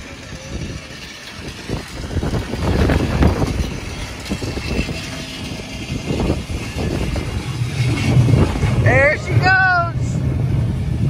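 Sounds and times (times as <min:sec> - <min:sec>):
tow truck engine rumbling: 0:00.0 - 0:11.0.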